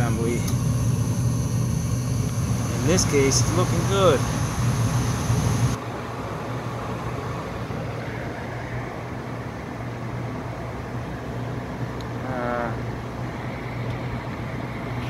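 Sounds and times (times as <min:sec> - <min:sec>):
gas furnace humming and rushing: 0:00.0 - 0:15.0.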